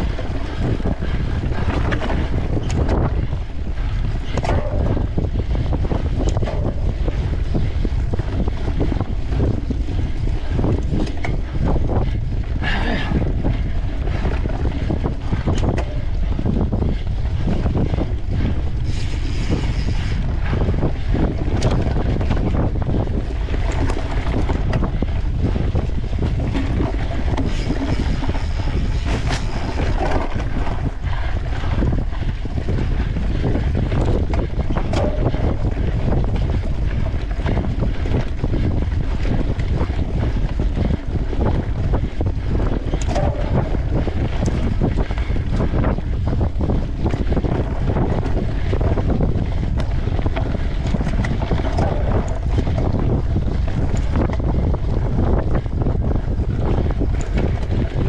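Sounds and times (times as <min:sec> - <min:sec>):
bike knocks and rattles: 0:00.0 - 0:58.0
tyres rumbling on sandy trail: 0:00.0 - 0:58.0
wind buffeting microphone: 0:00.0 - 0:58.0.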